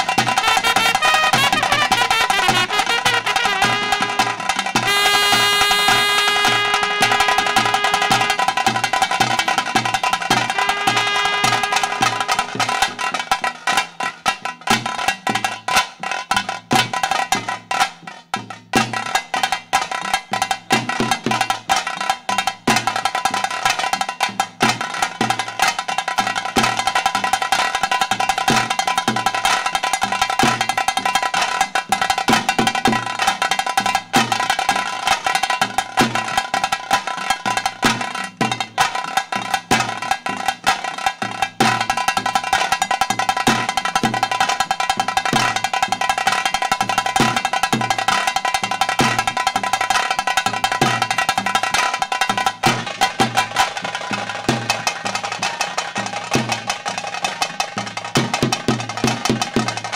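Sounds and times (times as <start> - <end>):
drums beaten fast with sticks: 0.0 - 59.9.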